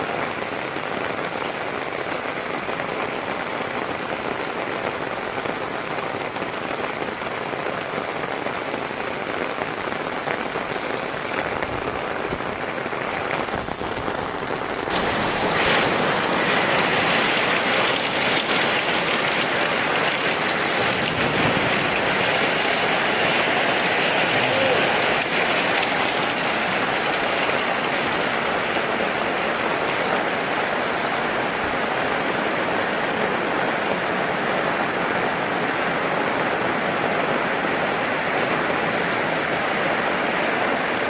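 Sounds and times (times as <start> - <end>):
heavy rain hissing: 0.0 - 41.0.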